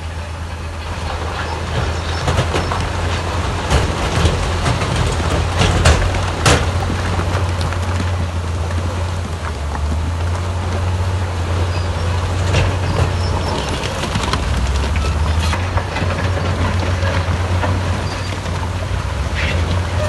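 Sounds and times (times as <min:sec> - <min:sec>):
heavy diesel engines rumbling: 0:00.0 - 0:20.0
rocks knocking and clattering: 0:00.9 - 0:20.0.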